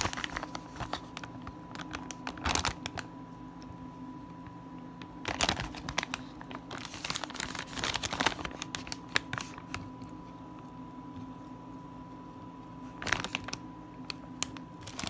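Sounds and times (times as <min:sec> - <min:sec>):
plastic package crinkling: 0:00.0 - 0:03.7, 0:04.4 - 0:11.6, 0:12.5 - 0:15.0.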